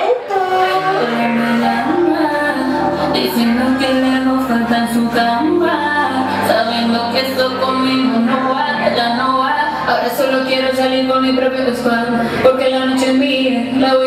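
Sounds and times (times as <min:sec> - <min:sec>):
pop song with woman singing: 0:00.0 - 0:14.0.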